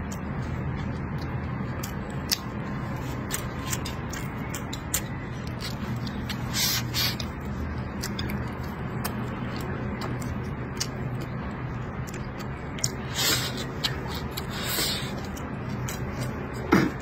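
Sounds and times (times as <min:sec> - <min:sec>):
man chewing food: 0:00.0 - 0:17.0.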